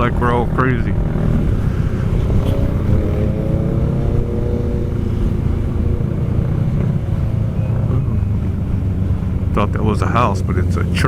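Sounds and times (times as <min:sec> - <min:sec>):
group of motorcycles droning: 0:00.0 - 0:11.0
heavy low rumble: 0:00.0 - 0:11.0.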